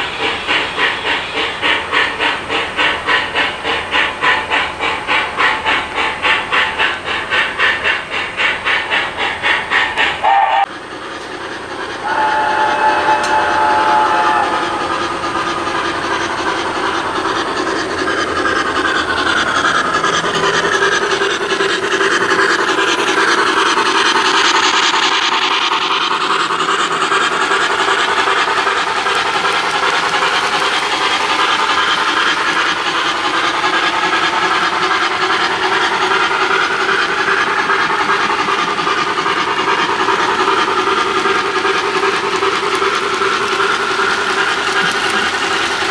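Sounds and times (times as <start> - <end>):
model train cars rolling on track: 0.0 - 45.9.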